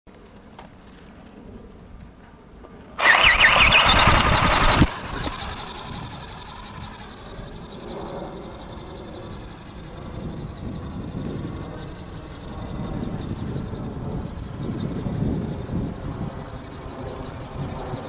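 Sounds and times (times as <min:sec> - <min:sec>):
model bird motor whine: 0:03.0 - 0:18.0.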